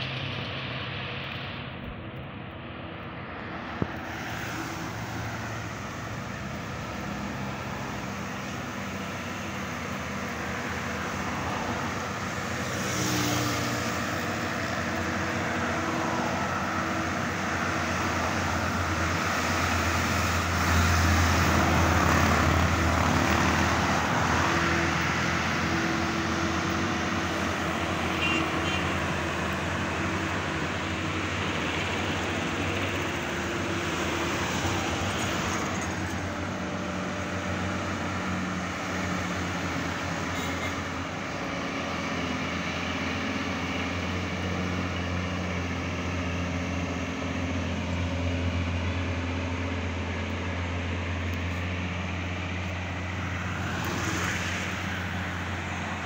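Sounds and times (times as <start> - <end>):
traffic passing: 0.0 - 56.0
truck engine drone: 0.0 - 56.0.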